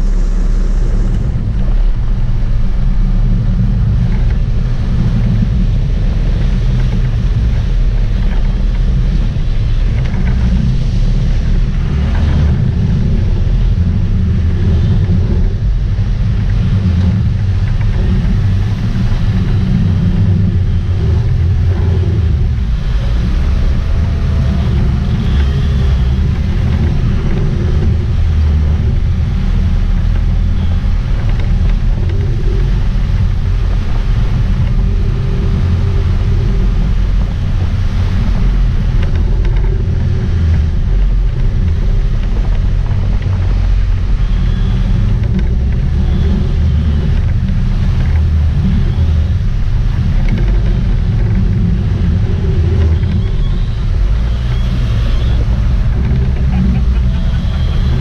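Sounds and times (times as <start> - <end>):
boat engines rumbling: 0.0 - 58.0
water churning: 0.0 - 58.0
wind buffeting microphone: 0.0 - 58.0.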